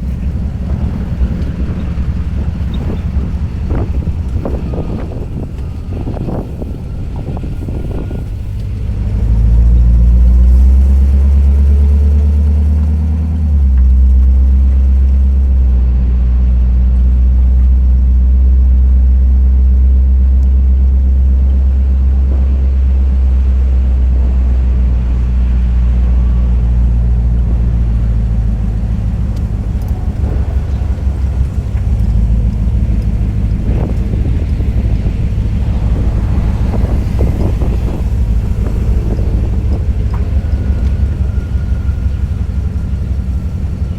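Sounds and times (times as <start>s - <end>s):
truck engine low drone: 0.0s - 43.9s.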